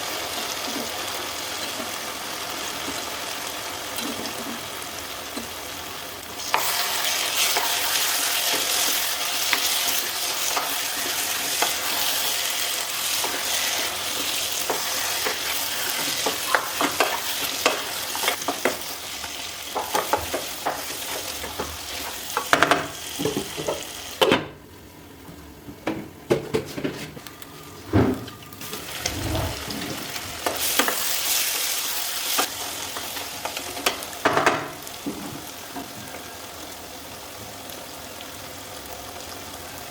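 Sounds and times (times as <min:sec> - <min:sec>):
food sizzling in hot oil: 0:00.0 - 0:24.2, 0:28.4 - 0:39.9.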